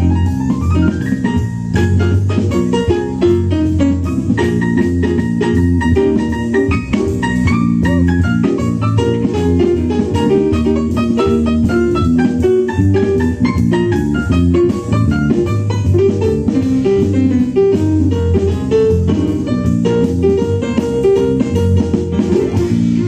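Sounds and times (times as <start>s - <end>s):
drum kit: 0.0s - 23.0s
piano: 0.0s - 23.0s
walking bass: 0.0s - 23.0s.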